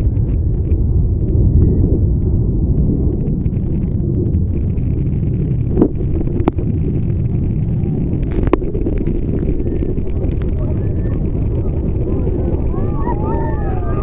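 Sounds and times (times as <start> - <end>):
jet engines rumbling: 0.0 - 14.0
wind blasting microphone: 0.0 - 14.0.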